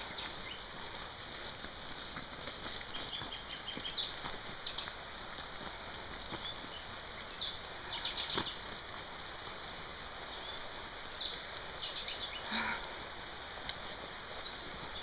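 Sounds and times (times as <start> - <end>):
movement along grassy path: 0.0 - 15.0
wind hiss: 0.0 - 15.0.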